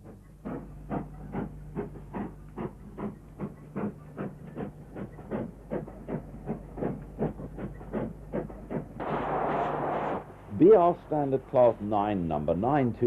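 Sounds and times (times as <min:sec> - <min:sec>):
steam locomotive exhaust beats: 0:00.0 - 0:12.6
steady low hum: 0:00.0 - 0:13.0.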